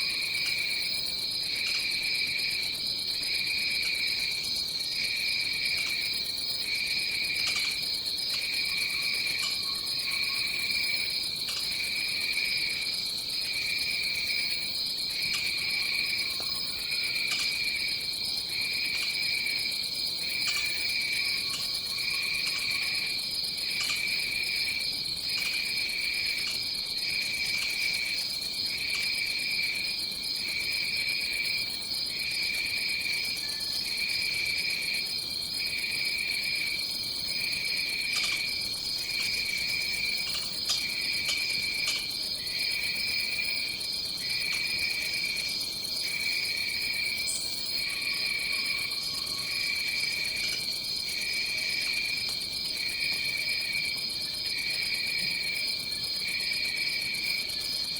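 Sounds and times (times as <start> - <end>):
high steady insect trill: 0.0 - 57.9
lower pulsing insect call: 0.0 - 57.9.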